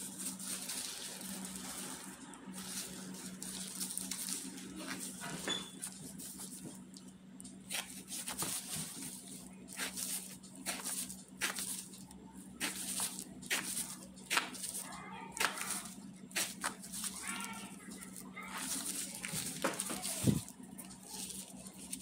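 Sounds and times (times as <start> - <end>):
plastic glove crinkling: 0.0 - 22.0
steady low hum: 0.0 - 22.0.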